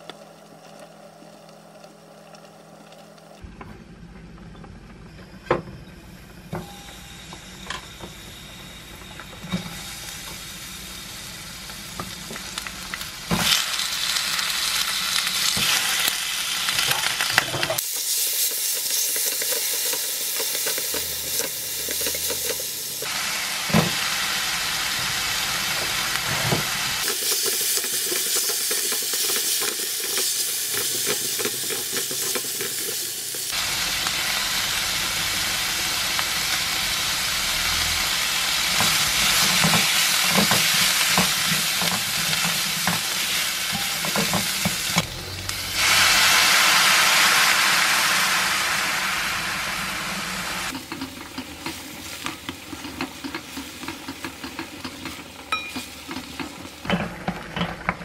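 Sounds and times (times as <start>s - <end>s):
food sizzling in a frying pan: 7.4s - 57.7s.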